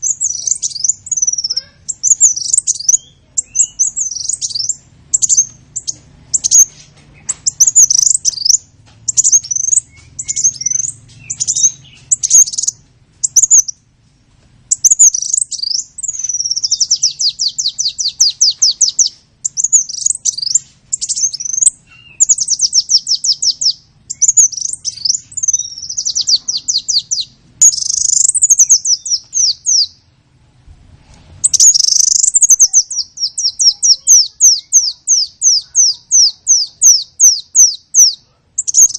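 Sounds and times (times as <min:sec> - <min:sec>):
songbird chirping and trilling: 0:00.0 - 0:30.4, 0:31.4 - 0:38.9.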